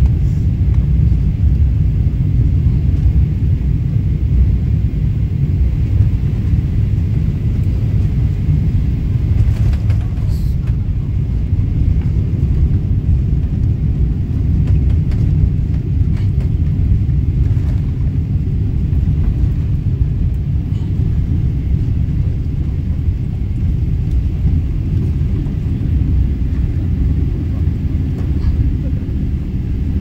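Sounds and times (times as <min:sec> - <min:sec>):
airplane cabin rumble: 0:00.0 - 0:30.0.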